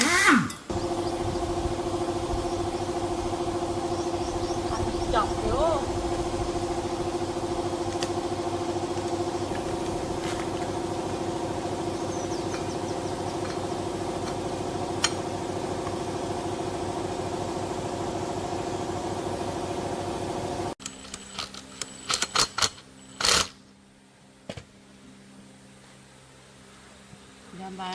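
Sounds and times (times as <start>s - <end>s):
motor running steadily: 0.0s - 23.5s.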